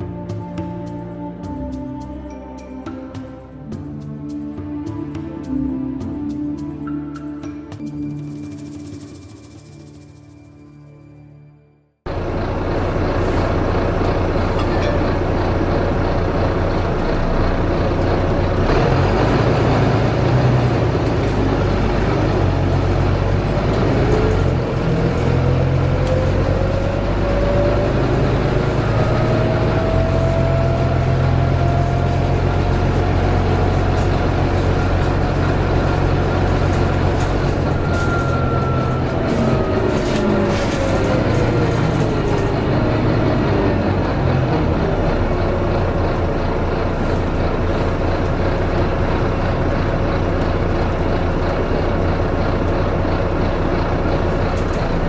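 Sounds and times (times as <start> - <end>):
bus diesel engine running: 0.0 - 11.0, 12.0 - 55.0.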